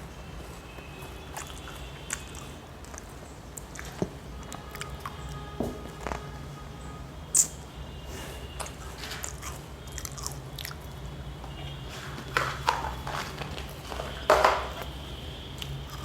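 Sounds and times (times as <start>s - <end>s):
person chewing crisp wafers: 0.2s - 6.4s, 8.2s - 16.0s.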